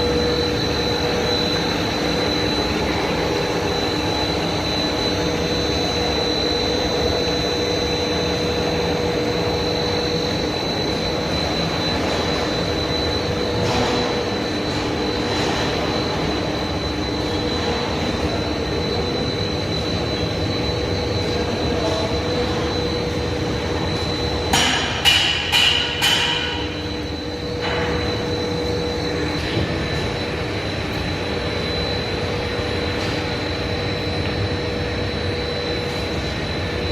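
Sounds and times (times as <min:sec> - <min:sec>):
heavy machinery whining and humming: 0:00.0 - 0:36.9.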